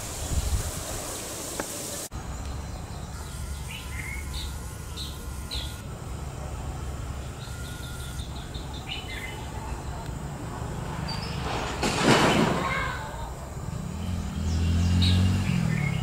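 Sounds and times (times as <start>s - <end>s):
small birds chirping: 0.1s - 11.5s, 12.3s - 16.0s.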